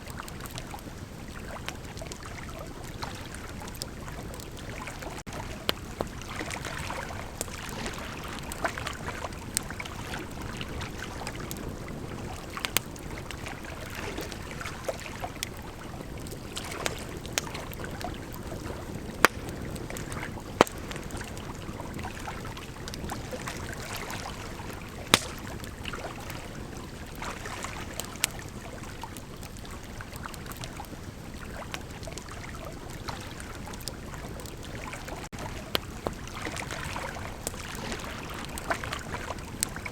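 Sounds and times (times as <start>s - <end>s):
bonfire crackling: 0.0s - 39.9s
fire popping and snapping: 0.1s - 27.2s, 27.8s - 39.9s.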